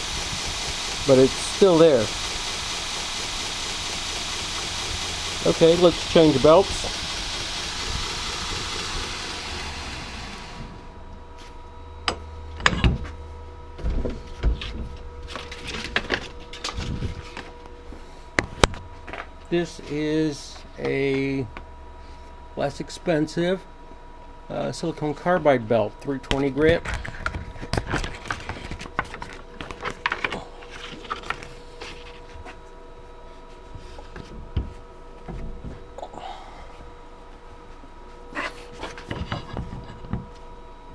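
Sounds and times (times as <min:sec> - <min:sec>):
faint steady hum: 0:05.2 - 0:40.9.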